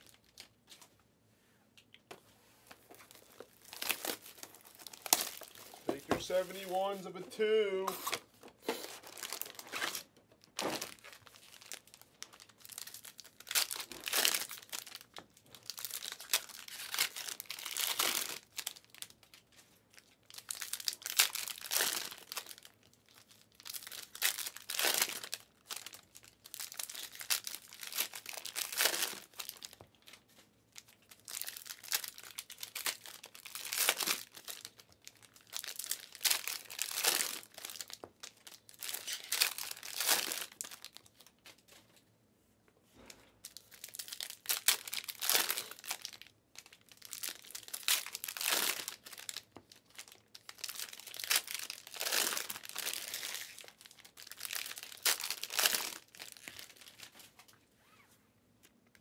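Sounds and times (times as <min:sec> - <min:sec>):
wrappers tearing and crinkling: 0:00.0 - 0:00.9, 0:02.7 - 0:41.7, 0:43.4 - 0:58.0.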